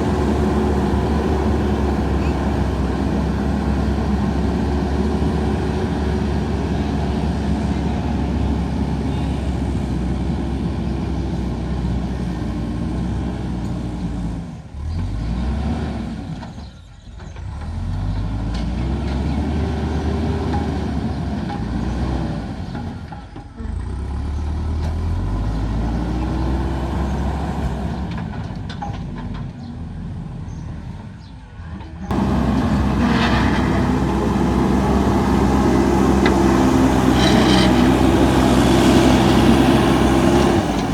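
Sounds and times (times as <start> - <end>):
diesel engine working under load: 0.0 - 40.9.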